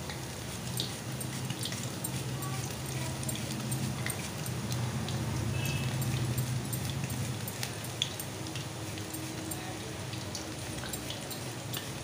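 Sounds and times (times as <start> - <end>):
banana frying in hot oil: 0.0 - 12.0
oil popping and crackling: 0.0 - 12.0.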